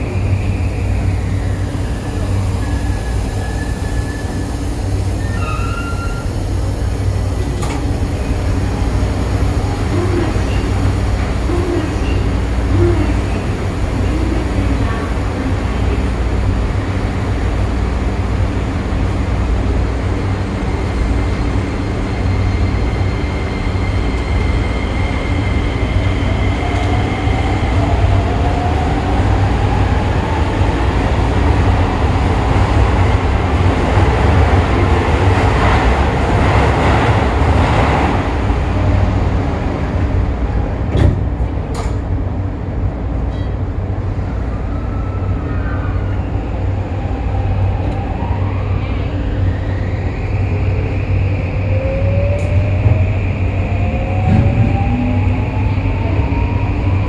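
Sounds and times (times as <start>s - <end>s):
subway car equipment humming: 0.0s - 57.0s.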